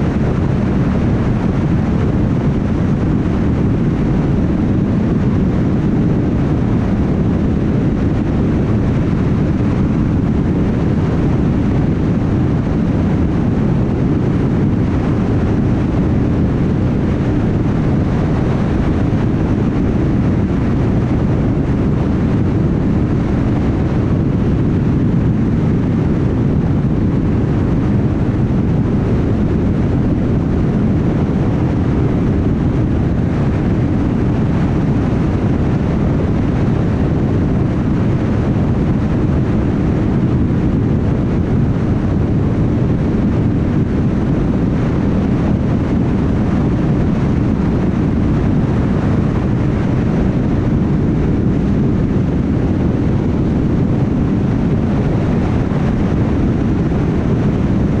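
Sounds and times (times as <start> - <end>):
tyre roar on highway: 0.0 - 58.0.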